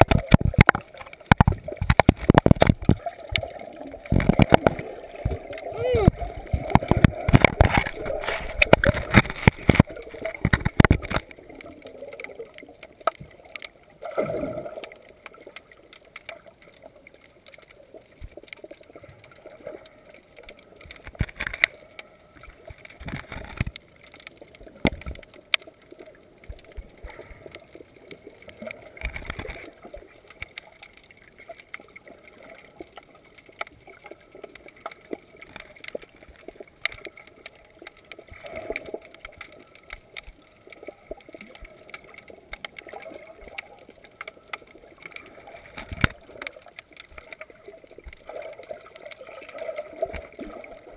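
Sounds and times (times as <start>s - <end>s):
muffled underwater wash: 0.0s - 50.9s
underwater clicks and crackles: 0.0s - 50.9s
water swishes: 0.0s - 50.9s.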